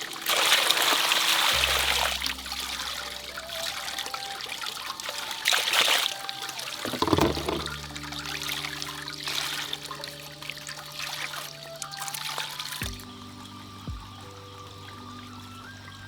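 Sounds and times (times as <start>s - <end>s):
soft music of long held notes: 0.0s - 16.0s
water trickling and splashing: 0.0s - 16.0s.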